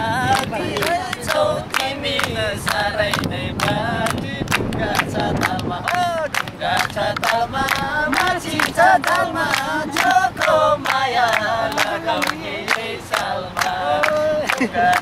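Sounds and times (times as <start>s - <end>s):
group singing a cappella folk song: 0.0s - 15.0s
hand clapping: 0.3s - 15.0s.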